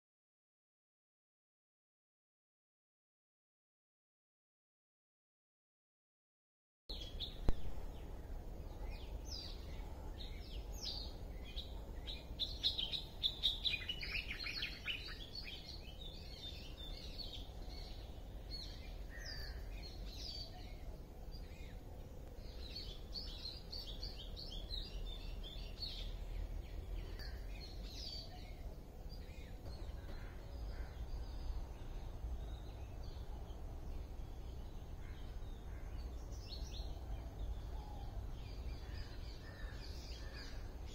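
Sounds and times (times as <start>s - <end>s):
low steady rumble: 6.9s - 40.9s
small birds chirping: 6.9s - 40.9s.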